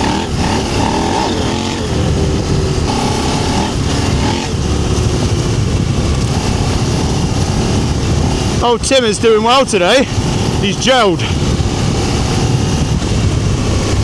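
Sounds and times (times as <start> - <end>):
constant rushing noise: 0.0 - 14.0
motorcycle engine running: 0.0 - 14.0.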